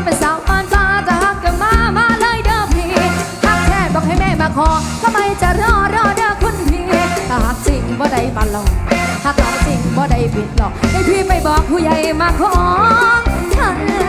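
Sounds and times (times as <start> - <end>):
bass: 0.0 - 14.0
bending lead melody: 0.0 - 14.0
drum beat: 0.2 - 14.0.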